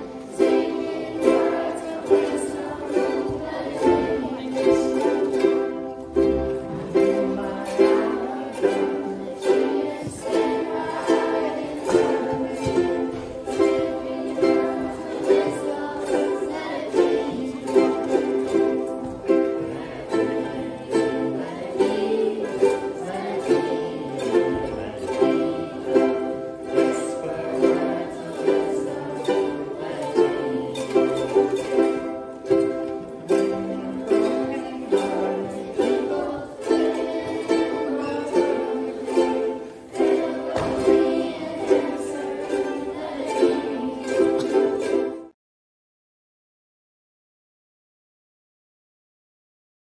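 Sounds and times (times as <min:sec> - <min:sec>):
children strumming ukuleles: 0:00.0 - 0:45.4.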